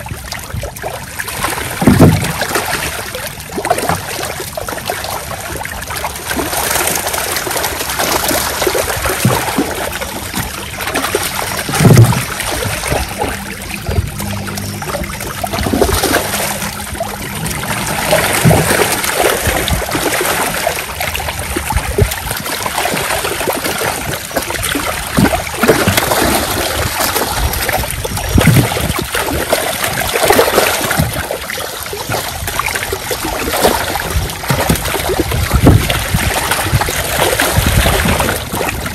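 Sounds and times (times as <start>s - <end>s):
fish thrashing and splashing: 0.0s - 38.9s.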